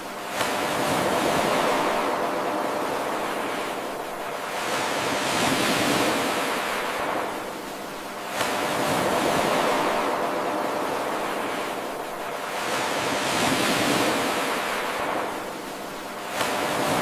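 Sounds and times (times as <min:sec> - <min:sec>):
ocean surf washing: 0:00.0 - 0:17.0
wave breaking: 0:00.2 - 0:17.0.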